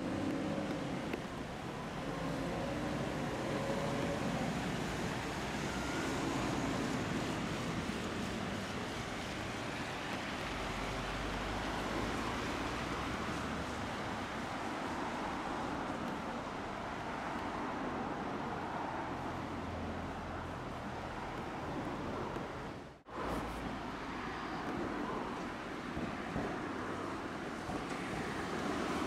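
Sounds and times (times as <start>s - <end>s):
streetcar rumbling: 0.0s - 29.0s.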